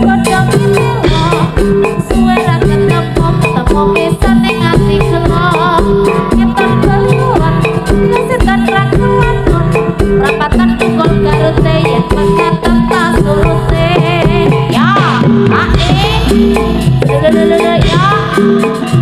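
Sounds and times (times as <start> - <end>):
drums: 0.0 - 19.0
gamelan-style percussion: 0.0 - 19.0
wavering melodic line: 0.0 - 19.0.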